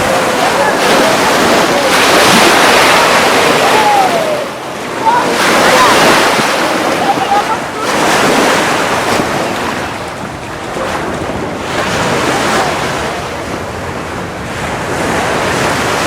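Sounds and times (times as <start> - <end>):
ocean surf washing onto beach: 0.0 - 16.0
wind buffeting microphone: 0.0 - 16.0.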